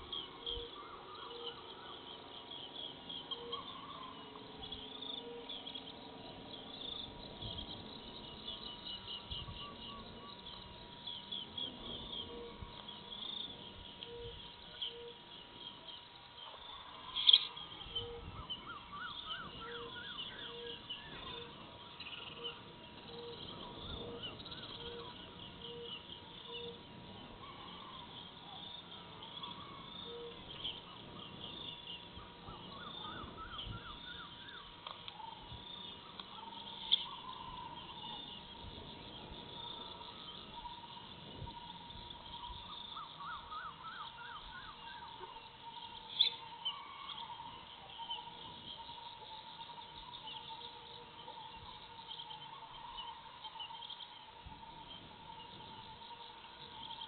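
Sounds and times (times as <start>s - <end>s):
birds calling: 0.0s - 57.0s
insects chirring: 0.0s - 57.0s.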